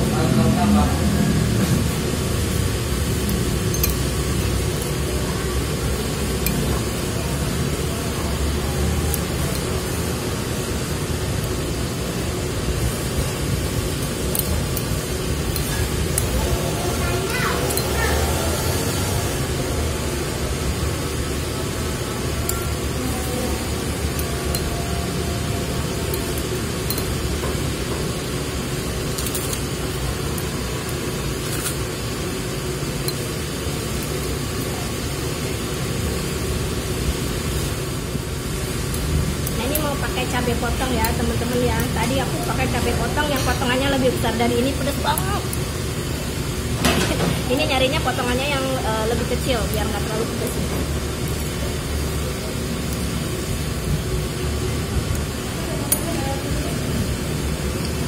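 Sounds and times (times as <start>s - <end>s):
low rumble and hiss: 0.0s - 58.0s
steady background hum: 0.0s - 58.0s.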